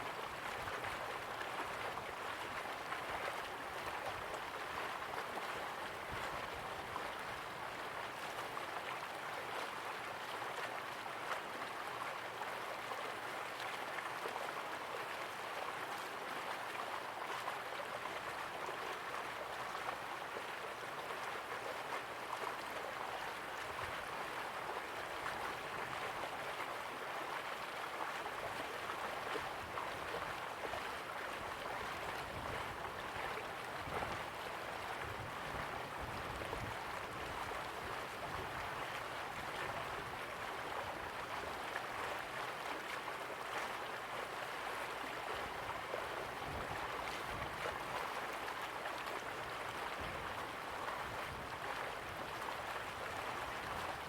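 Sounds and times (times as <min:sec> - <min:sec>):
river water rushing and gurgling: 0:00.0 - 0:54.0.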